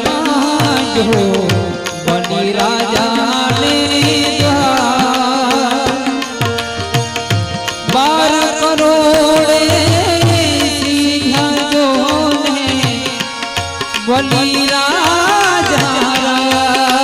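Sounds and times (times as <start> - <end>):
devotional melody: 0.0 - 17.0.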